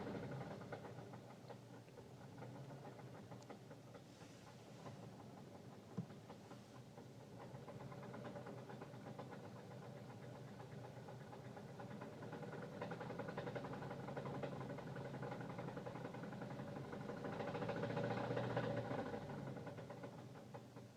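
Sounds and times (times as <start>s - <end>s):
engine running with fast knock: 0.0s - 20.9s.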